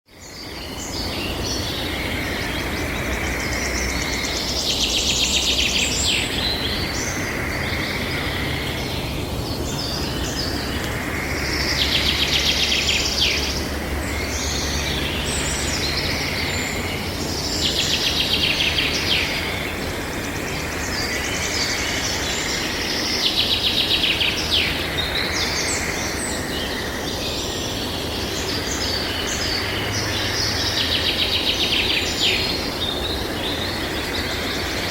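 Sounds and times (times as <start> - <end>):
birds chirping and calling: 0.2 - 34.9.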